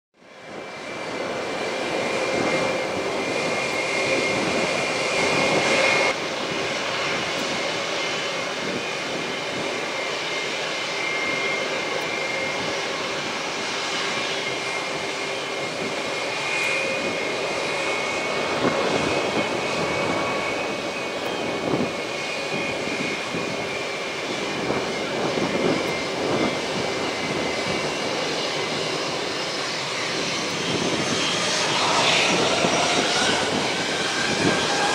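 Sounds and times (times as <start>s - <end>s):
jet engines whining: 0.2s - 34.9s.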